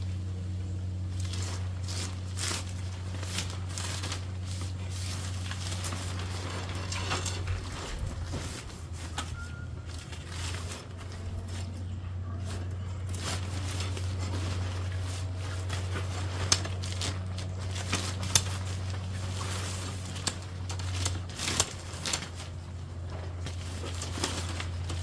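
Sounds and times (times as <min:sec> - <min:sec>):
steady low hum: 0:00.0 - 0:25.0
tent fabric rustling: 0:01.0 - 0:25.0
tent poles clicking and knocking: 0:01.2 - 0:25.0.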